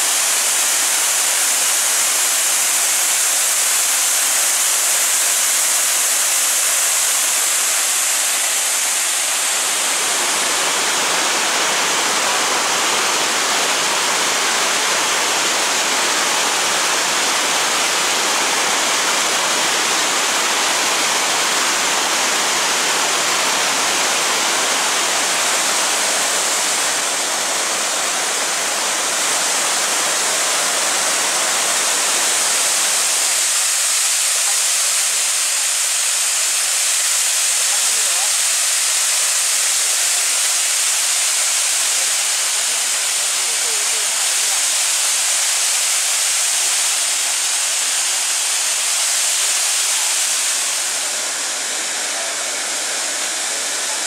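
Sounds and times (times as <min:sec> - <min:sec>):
waterfall and river rushing: 0:00.0 - 0:54.0.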